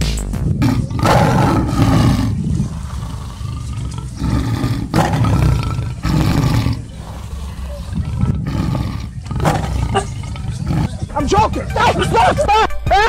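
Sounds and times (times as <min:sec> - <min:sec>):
tiger roaring: 0:00.5 - 0:12.5.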